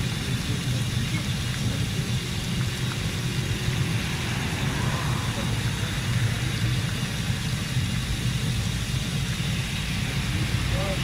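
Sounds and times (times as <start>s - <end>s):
oil sizzling: 0.0s - 11.0s
low rumble: 1.6s - 11.0s.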